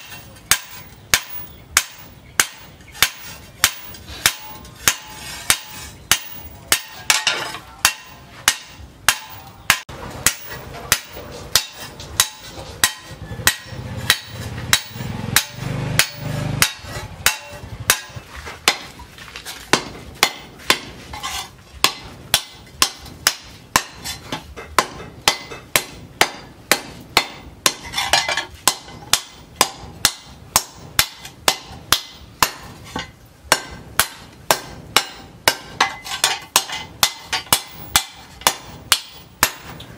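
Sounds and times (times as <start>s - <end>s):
sledgehammer clanging on hot steel: 0.0s - 39.9s.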